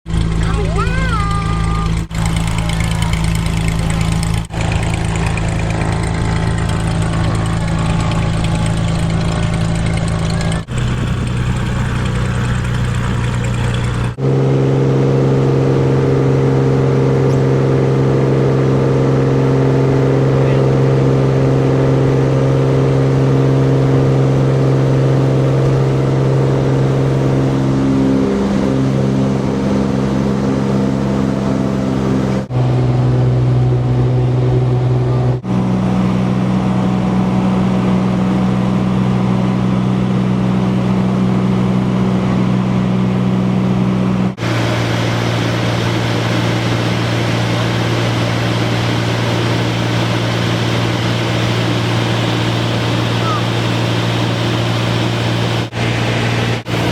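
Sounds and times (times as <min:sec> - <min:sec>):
propeller plane engine droning: 0:00.0 - 0:56.9.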